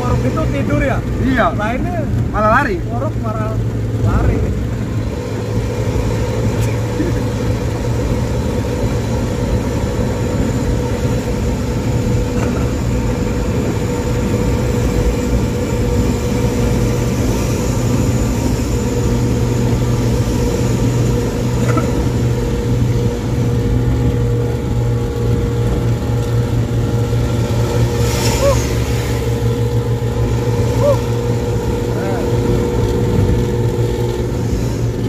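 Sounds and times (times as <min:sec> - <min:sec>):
bus engine and exhaust growl: 0:00.0 - 0:35.0.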